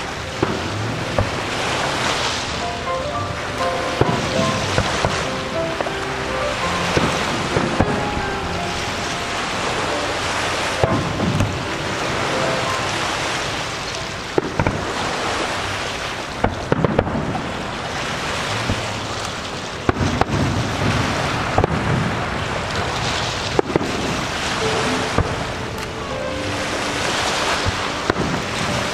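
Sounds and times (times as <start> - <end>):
steady rushing noise: 0.0 - 28.9.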